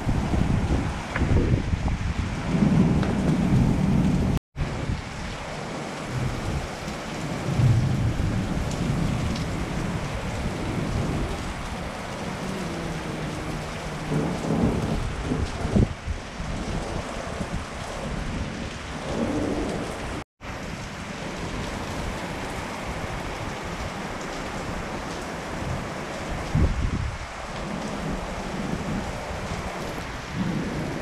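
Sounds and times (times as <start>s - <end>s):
thunder rumbling: 0.0s - 24.7s, 26.4s - 31.0s
heavy rain on pavement and roofs: 0.0s - 31.0s.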